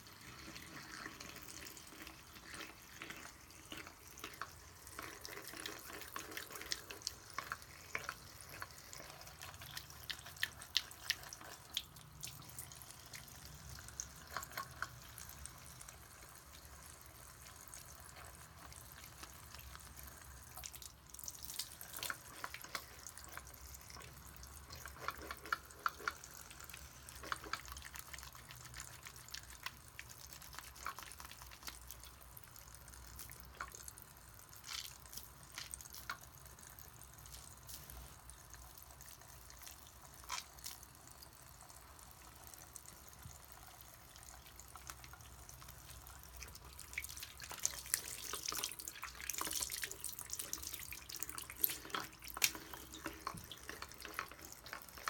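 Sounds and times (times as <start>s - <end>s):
faucet water running into sink: 0.0s - 55.0s
wet squelches and splashes: 0.0s - 55.0s.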